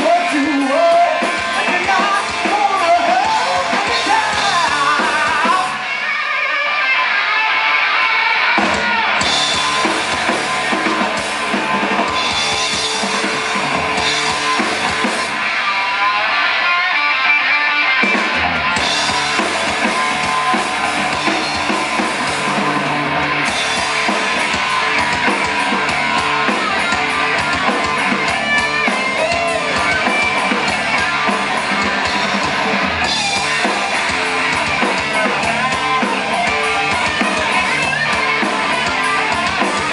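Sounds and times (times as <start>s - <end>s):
bass guitar: 0.0s - 39.9s
drums: 0.0s - 39.9s
electric guitar lines: 0.0s - 39.9s.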